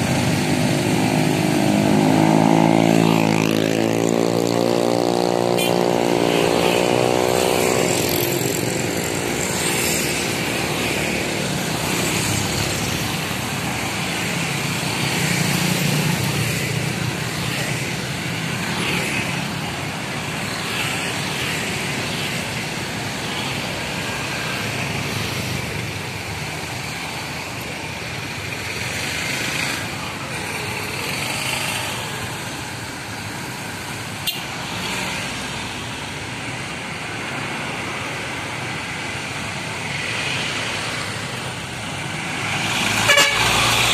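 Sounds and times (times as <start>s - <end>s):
road traffic passing: 0.0s - 43.9s.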